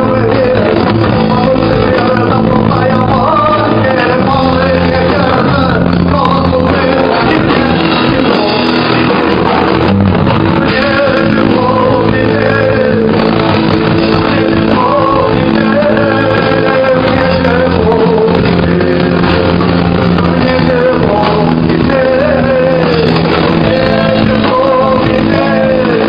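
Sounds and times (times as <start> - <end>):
person singing: 0.0 - 26.0
rock band playing live: 0.0 - 26.0.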